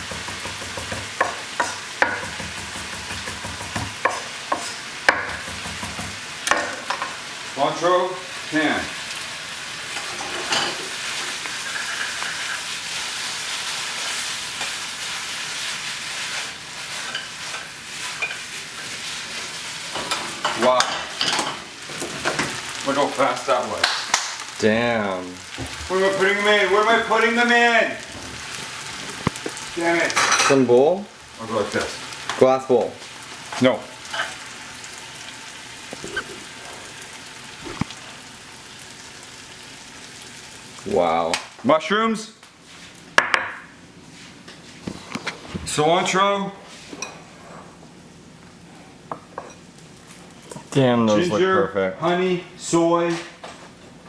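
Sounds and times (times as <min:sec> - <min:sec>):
noodles sizzling in a pan: 0:00.0 - 0:45.1.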